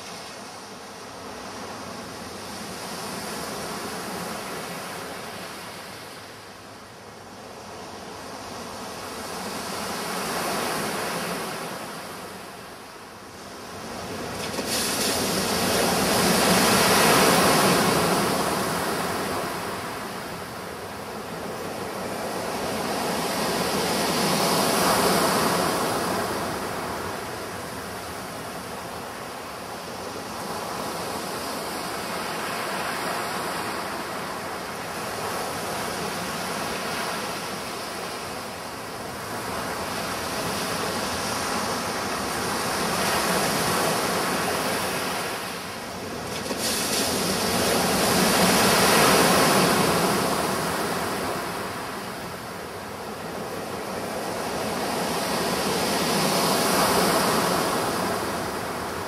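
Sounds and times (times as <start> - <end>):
sea waves breaking on a beach: 0.0 - 59.0.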